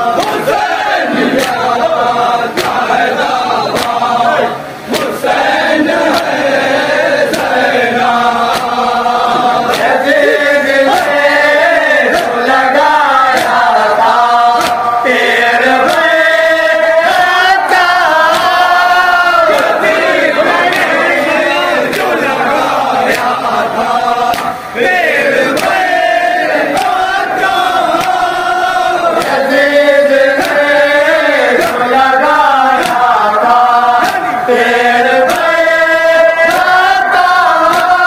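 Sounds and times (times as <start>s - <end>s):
men chanting call and response: 0.0s - 38.0s
chest-beating slaps: 0.2s - 4.1s, 4.9s - 12.7s, 13.3s - 16.4s, 17.0s - 18.8s, 19.5s - 23.5s, 24.2s - 24.6s, 25.5s - 28.4s, 29.1s - 32.0s, 32.6s - 35.8s, 36.4s - 38.0s.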